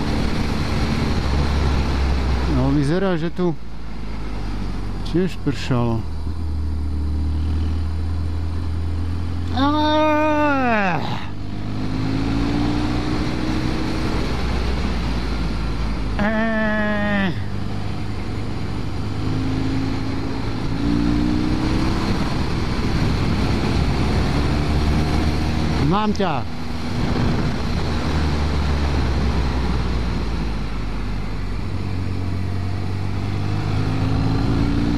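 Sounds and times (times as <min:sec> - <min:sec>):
wind and road rush: 0:00.0 - 0:34.9.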